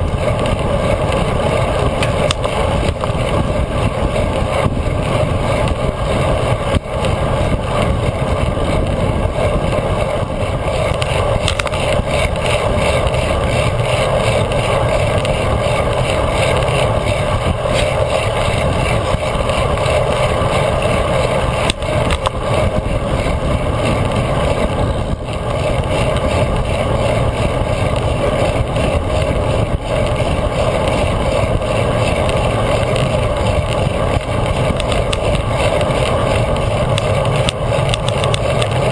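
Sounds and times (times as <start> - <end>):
tyre hum on asphalt: 0.0 - 38.9
wind rushing: 0.0 - 38.9.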